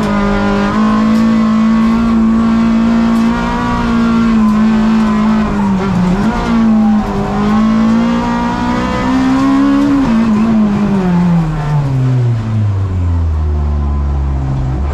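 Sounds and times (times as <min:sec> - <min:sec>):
race car engine revving: 0:00.0 - 0:14.9.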